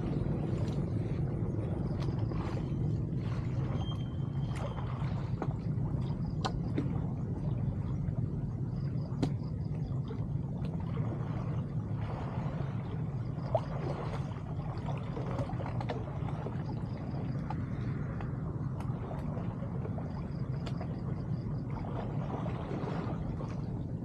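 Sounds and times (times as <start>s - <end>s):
small splashes: 0.0s - 24.0s
steady low rumble: 0.0s - 24.0s
water sloshing and gurgling: 0.0s - 24.0s.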